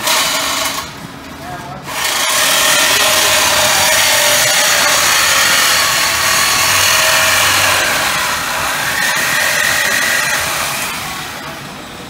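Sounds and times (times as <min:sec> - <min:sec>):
power tool cutting metal pipe: 0:00.0 - 0:00.9, 0:01.9 - 0:11.6.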